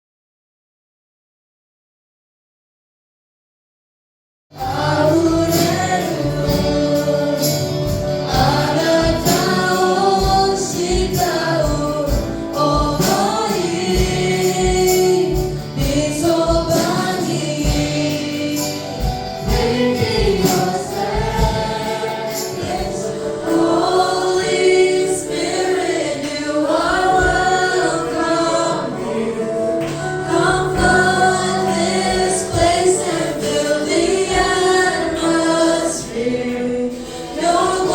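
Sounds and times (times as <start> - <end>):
gospel group singing with band: 4.5 - 37.9.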